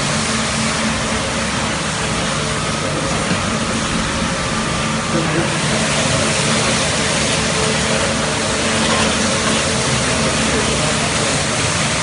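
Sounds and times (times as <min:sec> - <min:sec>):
washing machine mechanical din: 0:00.0 - 0:12.0.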